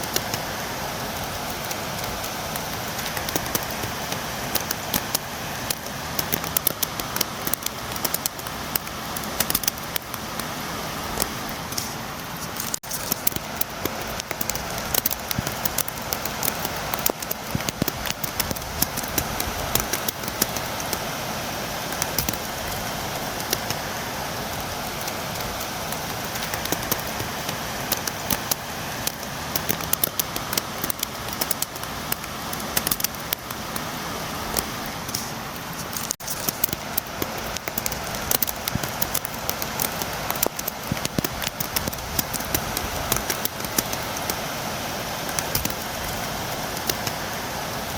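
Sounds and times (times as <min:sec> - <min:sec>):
raindrops tapping on window: 0:00.0 - 0:21.1, 0:21.8 - 0:47.9
rain falling: 0:00.0 - 0:47.9.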